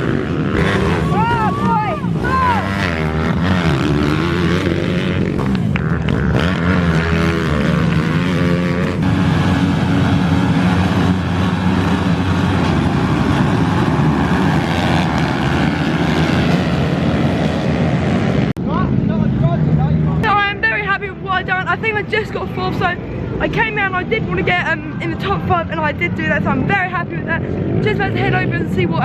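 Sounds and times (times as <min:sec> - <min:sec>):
small motorbike engines racing: 0:00.0 - 0:29.0.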